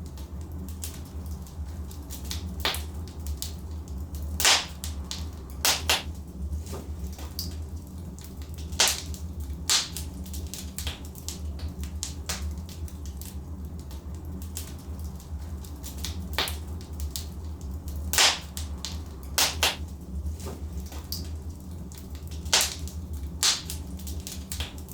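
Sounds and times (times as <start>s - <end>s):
logs crackling and popping: 0.0s - 24.9s
low rumble of fire: 0.0s - 24.9s.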